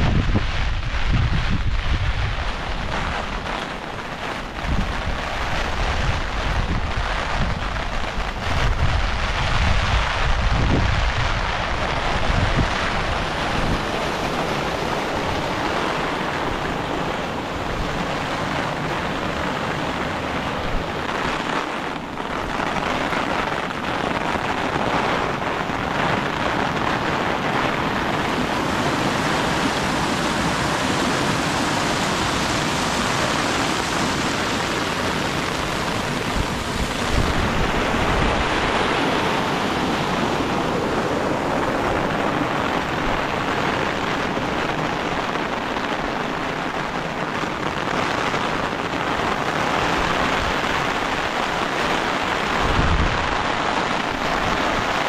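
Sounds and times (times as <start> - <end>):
heavy rain falling: 0.0 - 55.0
wind buffeting microphone: 0.0 - 55.0.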